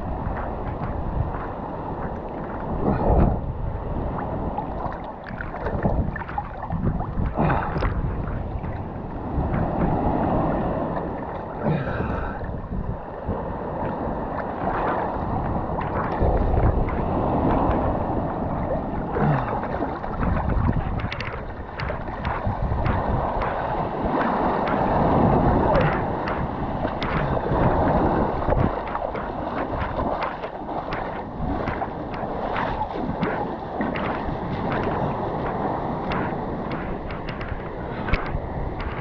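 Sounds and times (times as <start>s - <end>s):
surf washing and sloshing: 0.0s - 39.0s
water splashing against camera: 0.0s - 39.0s.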